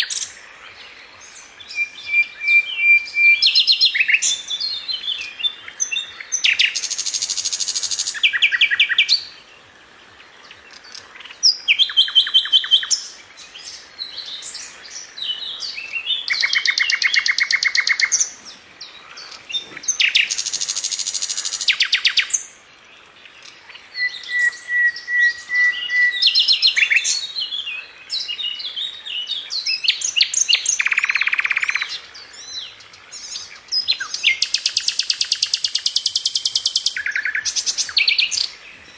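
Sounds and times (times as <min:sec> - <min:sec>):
songbird trilling and chirping: 0:00.0 - 0:38.9.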